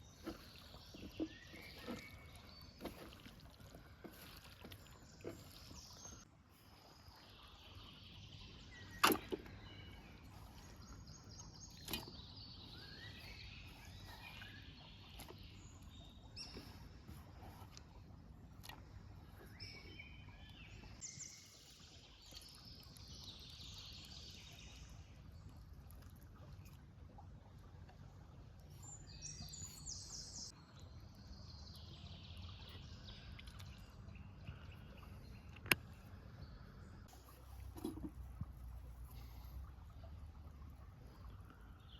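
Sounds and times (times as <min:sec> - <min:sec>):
faint birdsong: 0:00.0 - 0:26.5, 0:27.1 - 0:41.9
outdoor background noise: 0:00.0 - 0:41.9.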